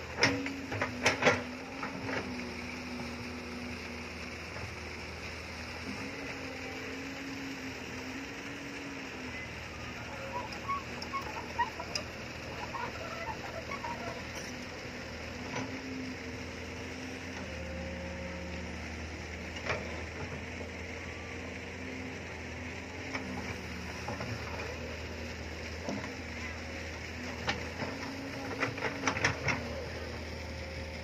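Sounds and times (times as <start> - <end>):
diesel engine humming: 0.0 - 31.0
hydraulic whine: 0.0 - 31.0.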